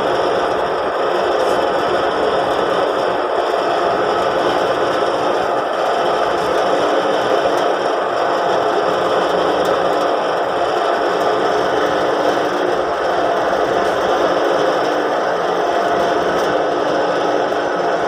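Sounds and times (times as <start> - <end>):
crane diesel engine running: 0.0 - 18.0.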